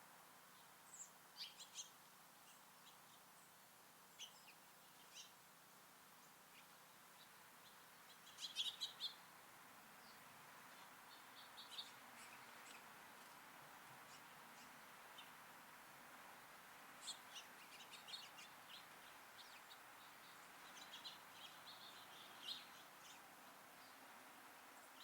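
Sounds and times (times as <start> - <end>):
faint steady hiss: 0.0 - 25.0
songbirds chirping: 0.0 - 25.0.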